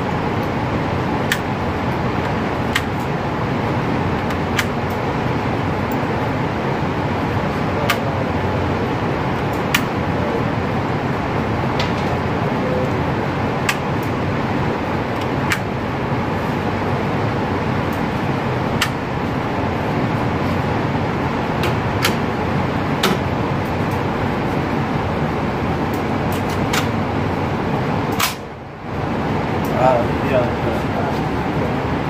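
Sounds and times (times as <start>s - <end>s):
ventilation air rushing: 0.0s - 32.0s.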